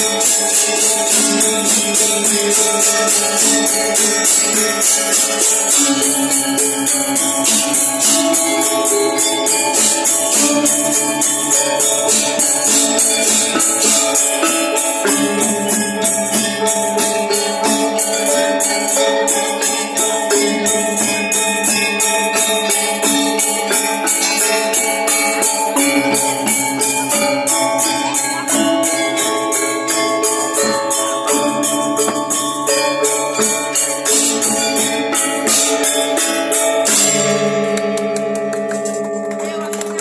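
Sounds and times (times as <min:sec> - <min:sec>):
fast cymbal clashes: 0:00.0 - 0:40.0
metallophones ringing melody: 0:00.0 - 0:40.0.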